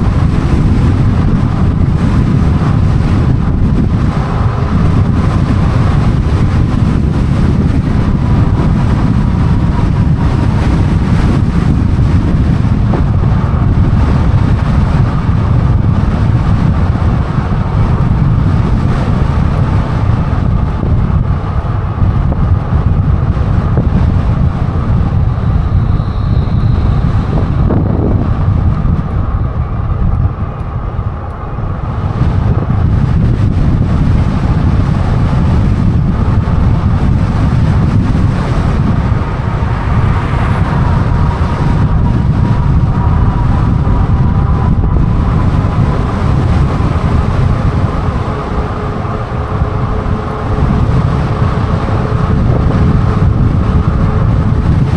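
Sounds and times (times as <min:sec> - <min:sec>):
faint steady whine: 0:00.0 - 0:54.9
wind rushing over microphone: 0:00.0 - 0:54.9.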